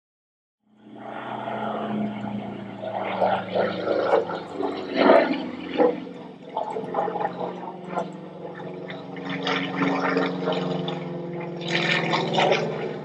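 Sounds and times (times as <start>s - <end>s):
propeller airplane engine droning: 0.6s - 13.0s.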